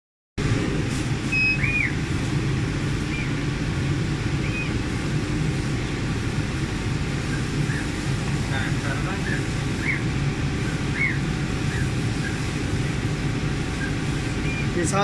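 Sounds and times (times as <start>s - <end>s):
fans humming: 0.4s - 15.0s.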